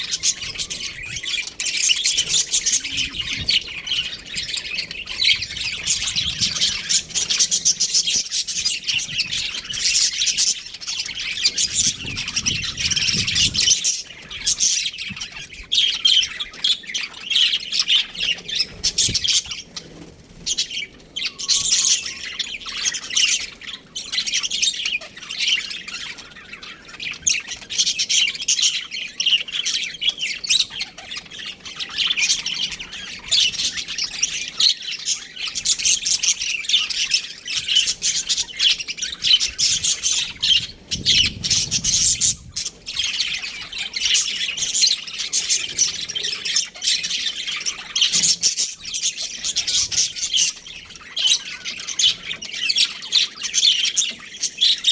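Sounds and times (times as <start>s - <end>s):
budgerigars chirping and squawking: 0.0s - 54.9s.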